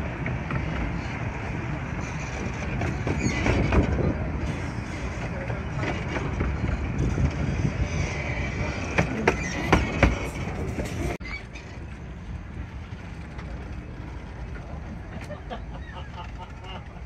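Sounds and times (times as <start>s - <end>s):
carriage rumbling on track: 0.0s - 17.0s
wheels clacking: 0.0s - 17.0s.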